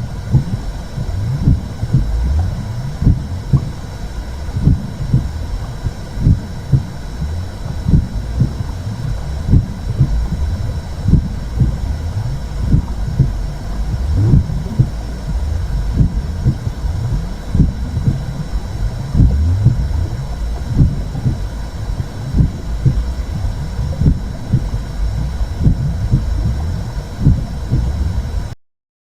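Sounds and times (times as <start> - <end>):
muffled low rumble with throbbing: 0.0 - 28.6.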